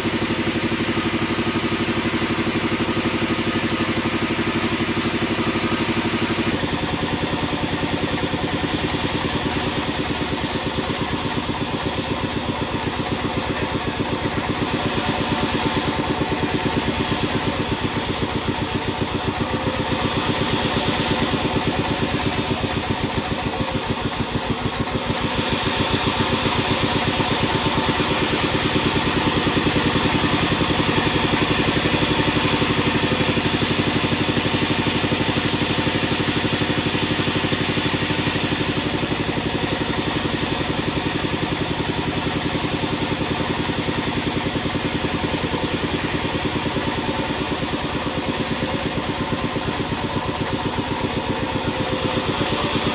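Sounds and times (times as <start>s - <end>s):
band sawmill engine running: 0.0s - 52.9s.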